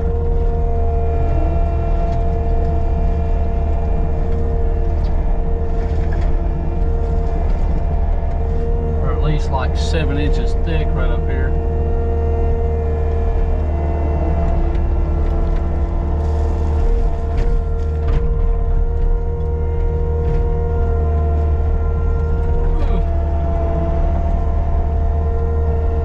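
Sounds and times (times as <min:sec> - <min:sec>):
diesel engine running: 0:00.0 - 0:26.0
hydraulic whine: 0:00.0 - 0:26.0.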